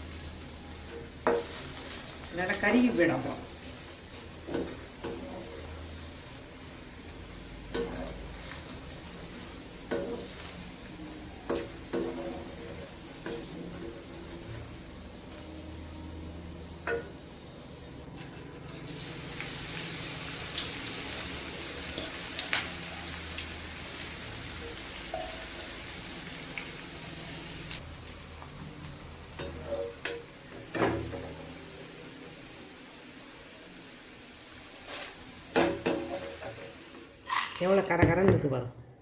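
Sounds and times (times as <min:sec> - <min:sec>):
chips sizzling in hot oil: 0:00.0 - 0:37.8.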